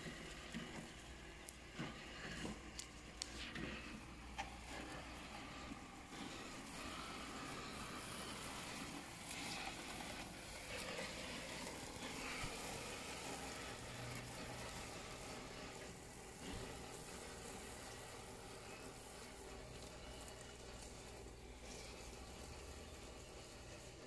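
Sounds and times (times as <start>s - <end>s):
electric motors whirring: 0.0s - 24.0s.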